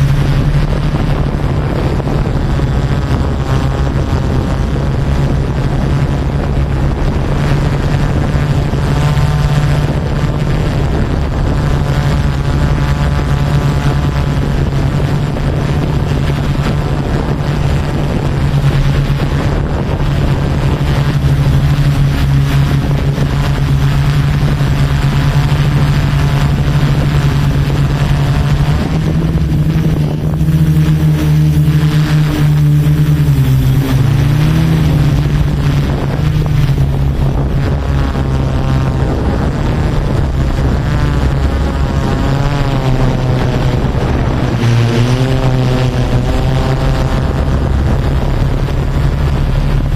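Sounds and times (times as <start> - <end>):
drone motors humming: 0.0 - 49.9.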